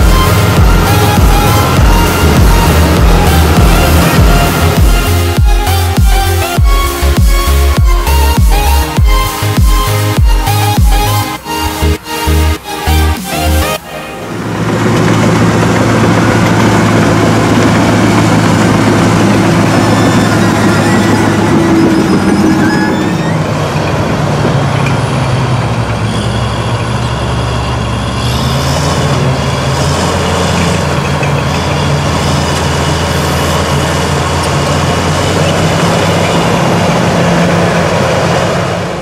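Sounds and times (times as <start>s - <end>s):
bulldozer diesel engine: 0.0s - 39.0s
track rattle and squeak: 0.0s - 39.0s.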